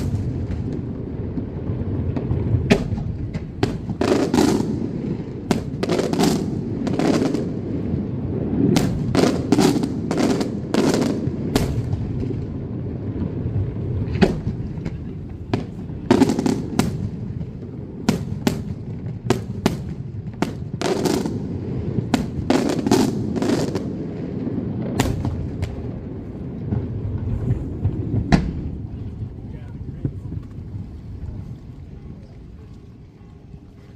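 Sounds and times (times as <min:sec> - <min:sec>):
fireworks bursting with sharp bangs: 0:00.0 - 0:31.4.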